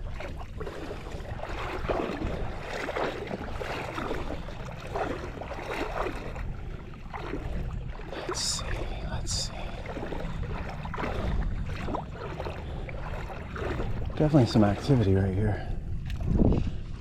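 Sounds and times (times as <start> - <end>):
shallow water sloshing: 0.0 - 17.0
wind rumble on microphone: 0.0 - 17.0.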